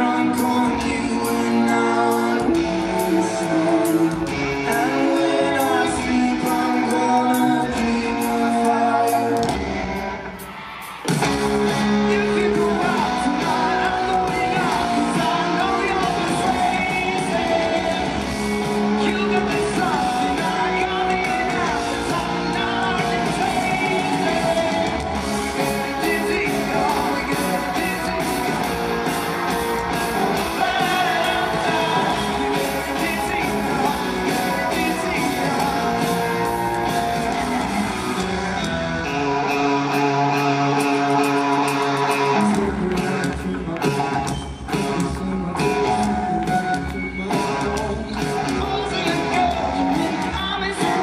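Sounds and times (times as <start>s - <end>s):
man singing with live band: 0.0s - 9.9s, 11.6s - 51.0s.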